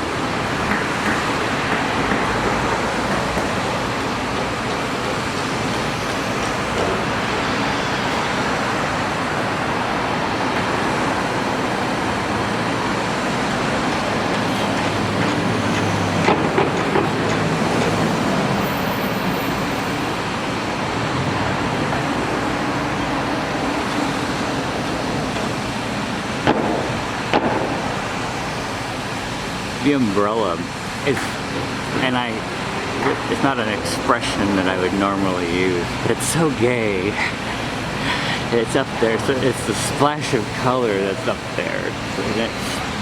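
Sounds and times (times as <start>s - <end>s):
heavy vehicle low hum: 0.0s - 43.0s
passing road traffic: 0.0s - 43.0s.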